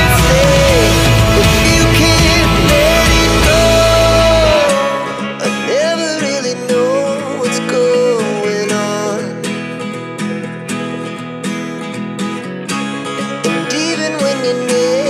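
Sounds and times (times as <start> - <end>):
background music with guitar: 0.0 - 15.0.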